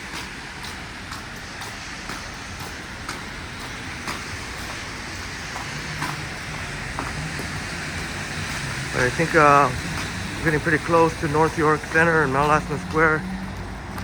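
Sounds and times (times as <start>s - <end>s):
footsteps ticking: 0.0s - 14.0s
tyres hissing on wet street: 0.0s - 14.0s
vehicle idling close by: 0.0s - 14.0s.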